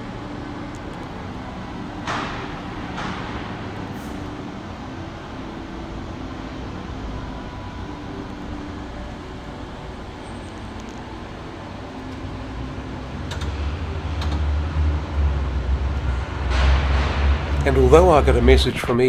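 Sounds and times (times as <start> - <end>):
machinery: 0.0 - 19.0
traffic: 0.0 - 19.0.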